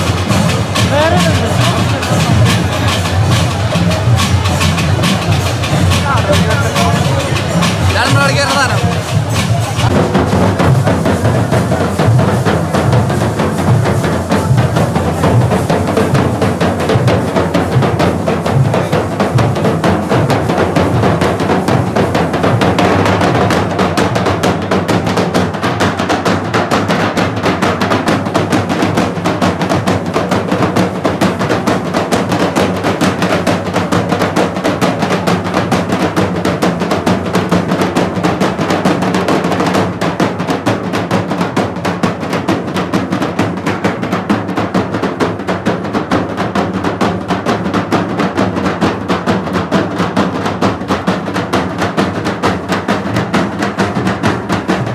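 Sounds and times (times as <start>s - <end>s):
barrel drums beaten in fast rhythm: 0.0s - 54.9s.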